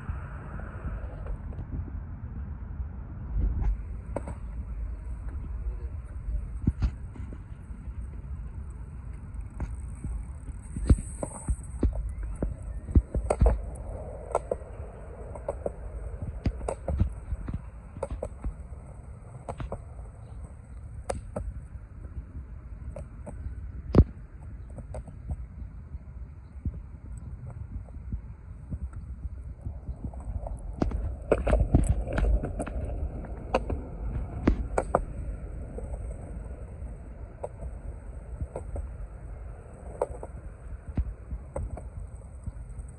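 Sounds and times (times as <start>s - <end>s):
skateboard wheels rolling on pavement: 0.0s - 42.9s.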